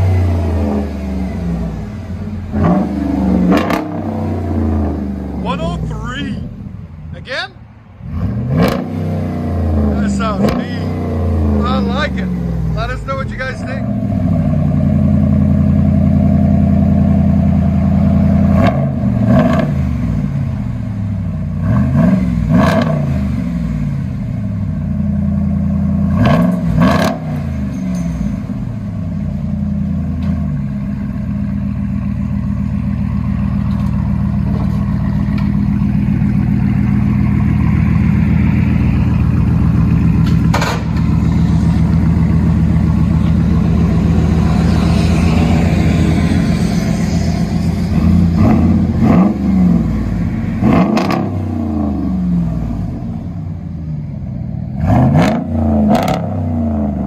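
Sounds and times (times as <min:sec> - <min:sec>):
engine revving: 0:00.0 - 0:06.5, 0:08.0 - 0:20.6, 0:21.5 - 0:28.2, 0:32.9 - 0:53.5, 0:54.6 - 0:57.0.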